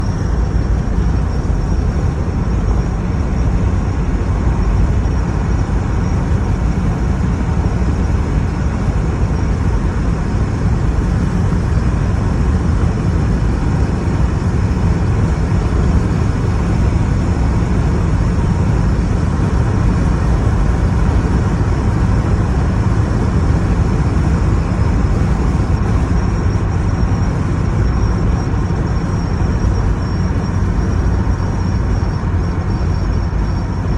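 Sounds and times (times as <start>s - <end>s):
road noise: 0.0s - 33.9s
vehicle engine: 0.0s - 33.9s
wind buffeting microphone: 0.0s - 33.9s.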